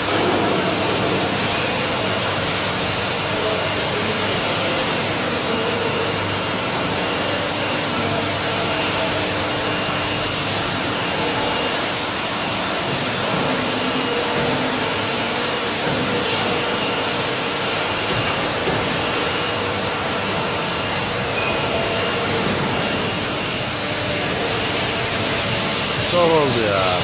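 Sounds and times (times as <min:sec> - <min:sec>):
bending machine hissing and humming: 0:00.0 - 0:27.0.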